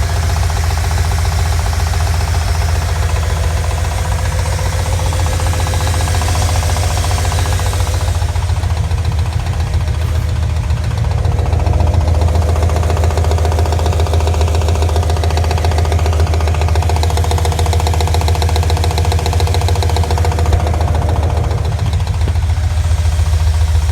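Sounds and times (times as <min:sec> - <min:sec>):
engine idling with knock: 0:00.0 - 0:23.9.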